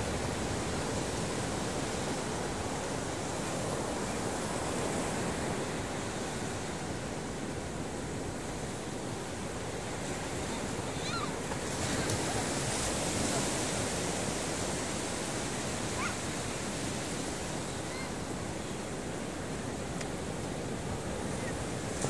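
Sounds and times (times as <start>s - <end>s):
ocean surf washing onto beach: 0.0s - 22.0s.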